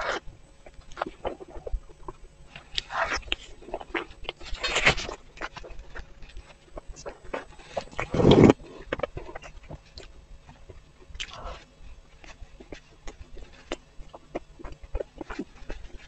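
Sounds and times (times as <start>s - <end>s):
close chewing with mouth clicks: 0.0s - 16.0s.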